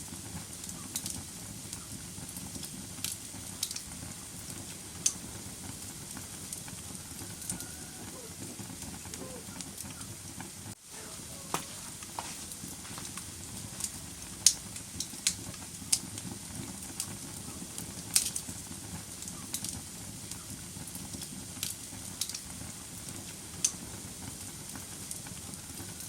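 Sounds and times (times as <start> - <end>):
burning wood crackling and popping: 0.0 - 26.0
low rush of flames: 0.0 - 26.0.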